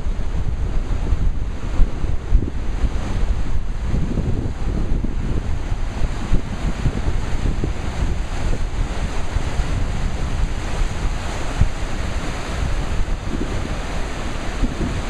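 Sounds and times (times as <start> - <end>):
ocean surf around rocks: 0.0 - 15.0
wind buffeting microphone: 0.0 - 15.0.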